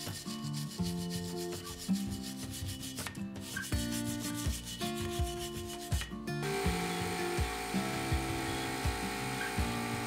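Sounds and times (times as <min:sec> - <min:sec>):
soft background music: 0:00.0 - 0:10.0
stiff brush scrubbing metal: 0:00.0 - 0:10.0.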